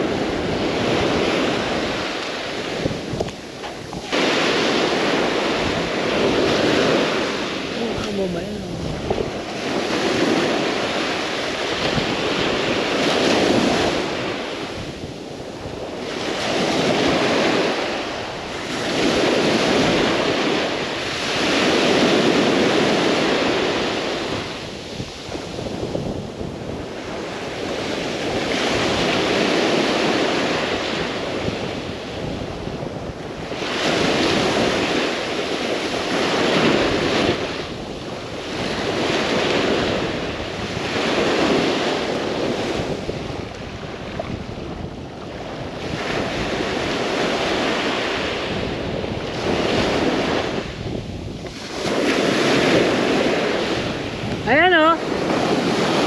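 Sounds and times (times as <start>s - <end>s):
ocean surf breaking: 0.0s - 56.0s
wind on microphone: 0.0s - 56.0s.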